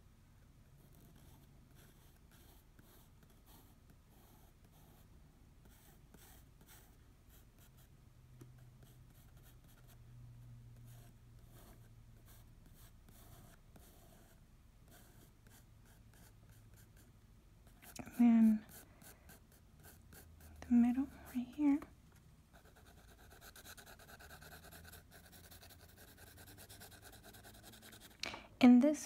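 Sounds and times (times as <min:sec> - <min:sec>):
pencil scratching on paper: 0:00.8 - 0:07.9, 0:08.8 - 0:10.0, 0:10.8 - 0:17.1, 0:17.7 - 0:21.5, 0:22.6 - 0:28.2.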